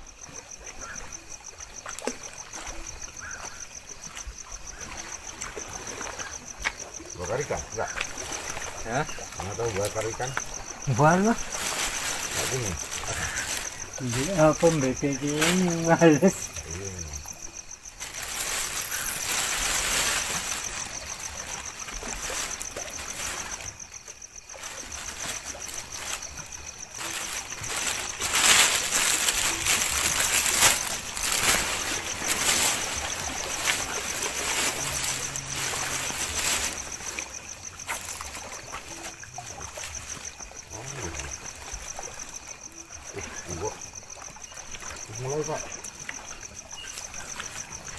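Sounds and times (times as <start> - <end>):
water lapping against rocks: 0.1 - 47.9.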